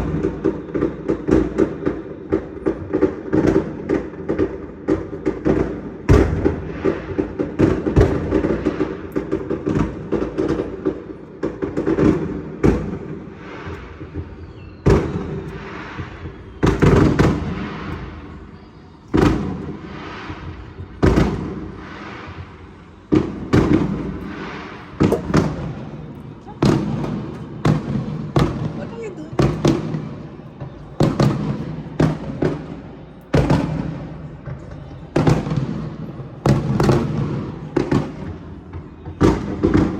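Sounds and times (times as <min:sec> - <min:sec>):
fireworks booms with rumble: 0:00.0 - 0:39.9
fireworks crackling bangs: 0:00.0 - 0:39.9.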